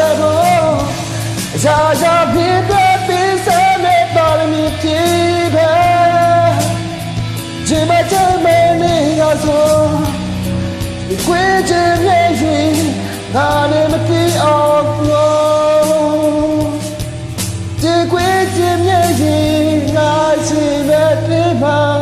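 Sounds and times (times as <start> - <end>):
person singing: 0.0 - 17.1, 17.7 - 22.0
karaoke backing track: 0.0 - 22.0.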